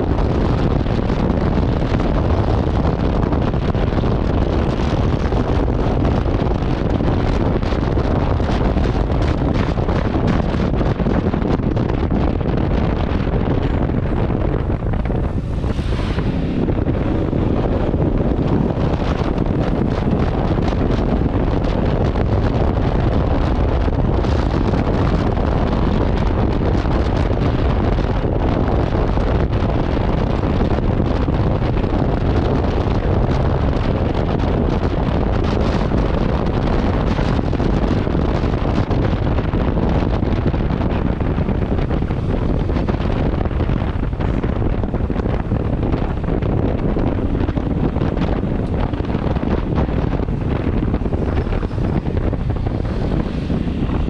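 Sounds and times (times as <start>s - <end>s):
wind buffeting on microphone: 0.0s - 54.0s.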